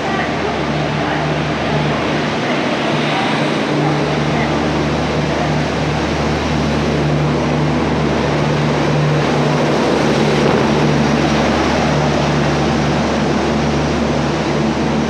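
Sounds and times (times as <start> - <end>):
train droning: 0.0 - 15.0.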